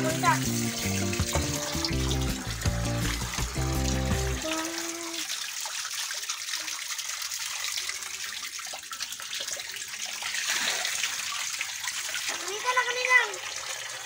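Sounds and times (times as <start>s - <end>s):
water pouring into fish tank: 0.0s - 14.0s.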